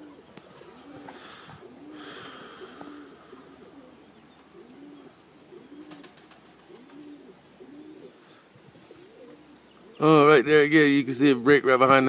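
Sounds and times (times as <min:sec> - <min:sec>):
pigeons cooing: 0:00.0 - 0:10.5.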